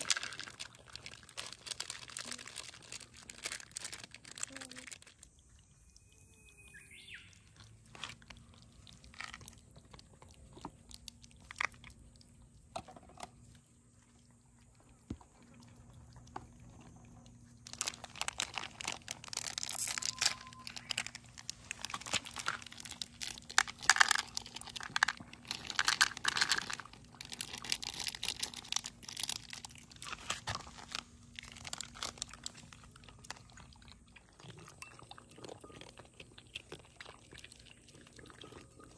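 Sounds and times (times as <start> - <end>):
cat crunching dry kibble: 0.0 - 5.3, 7.5 - 38.9.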